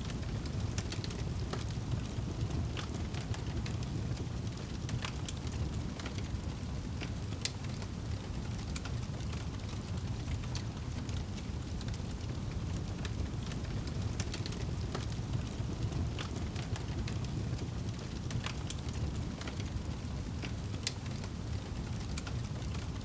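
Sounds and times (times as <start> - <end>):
fire snapping and popping: 0.0 - 23.0
low rumble of flames: 0.0 - 23.0.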